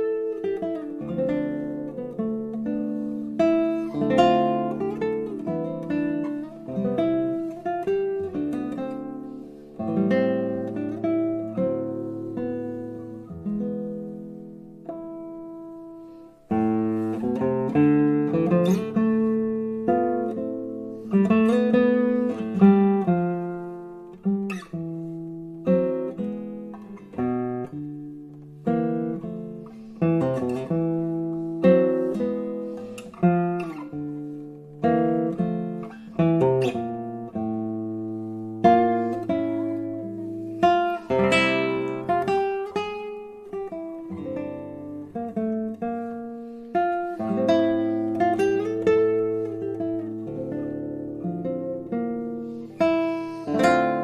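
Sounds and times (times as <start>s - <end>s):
classical guitar playing: 0.0s - 54.0s.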